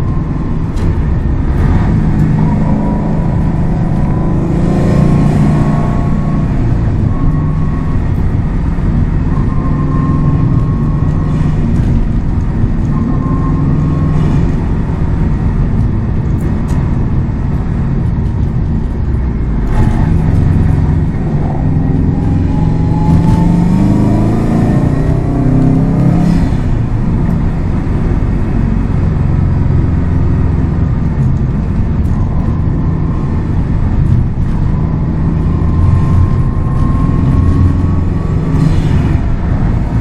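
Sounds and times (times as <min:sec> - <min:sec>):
car engine and exhaust accelerating: 0:00.0 - 0:40.0.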